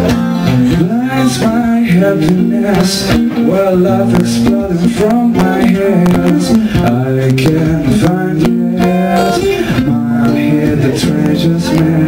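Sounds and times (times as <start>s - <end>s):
acoustic guitar: 0.0s - 12.0s
man singing into a microphone: 0.0s - 12.0s.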